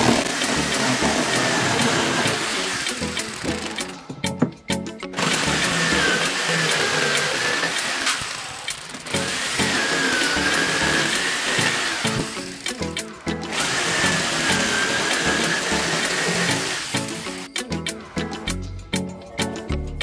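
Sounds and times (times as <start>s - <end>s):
power tool whining: 0.0s - 4.5s, 5.2s - 17.5s
background music: 0.0s - 20.0s.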